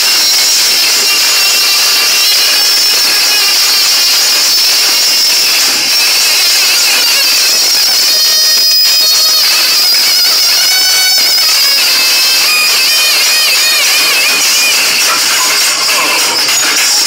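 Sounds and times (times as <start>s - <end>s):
distorted dance music over loudspeakers: 0.0s - 17.0s.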